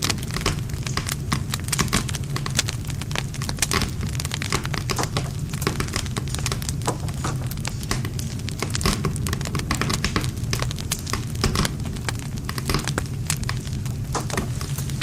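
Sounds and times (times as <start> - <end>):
burning wood popping and snapping: 0.0 - 15.0
low rumble of flames: 0.0 - 15.0.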